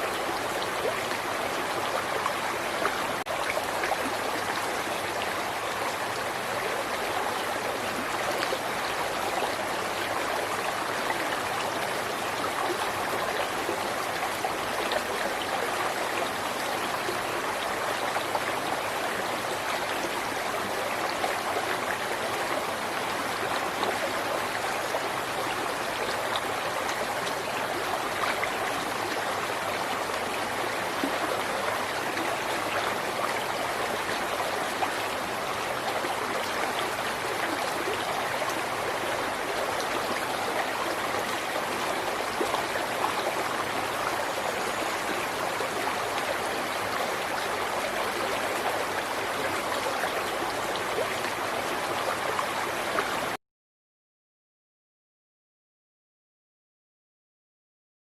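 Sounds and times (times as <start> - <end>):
river water over rocks: 0.0 - 53.4.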